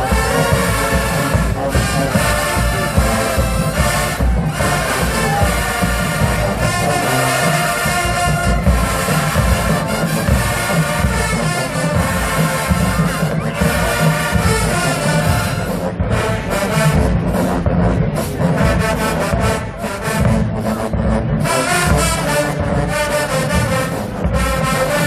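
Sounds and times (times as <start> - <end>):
heavy low drums: 0.0 - 25.0
marching band playing: 0.0 - 25.0.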